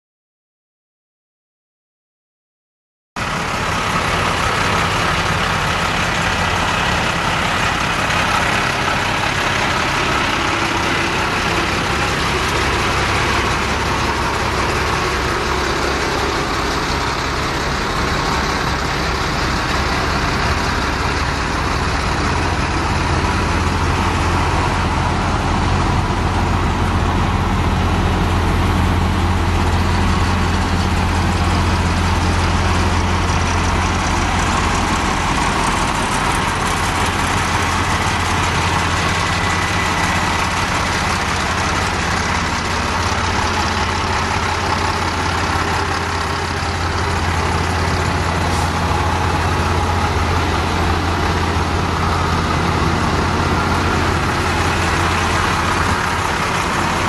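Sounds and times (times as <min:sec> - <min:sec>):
diesel truck idling: 0:03.2 - 0:57.0.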